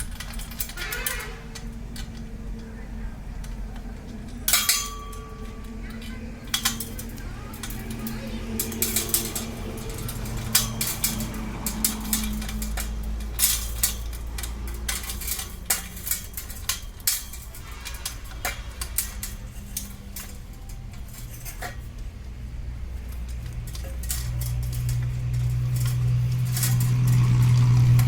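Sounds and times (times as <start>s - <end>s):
metal tools clinking and tapping: 0.0s - 28.0s
steady low hum: 0.0s - 28.0s.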